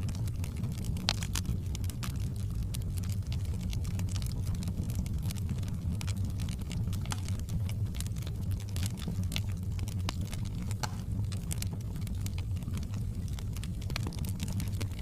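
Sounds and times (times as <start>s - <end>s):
fire snaps and pops: 0.0s - 15.0s
low rumble of flames: 0.0s - 15.0s.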